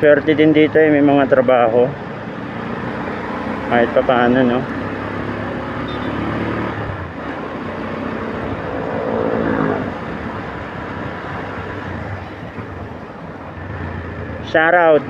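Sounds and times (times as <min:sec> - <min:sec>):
road noise: 0:00.0 - 0:15.0
wind: 0:00.0 - 0:15.0
motorcycle engine running: 0:01.9 - 0:14.6.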